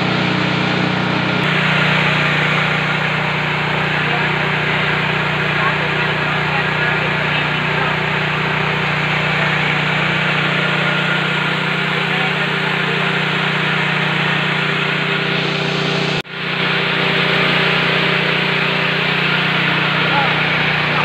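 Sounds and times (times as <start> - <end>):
rice mill running: 0.0 - 21.0.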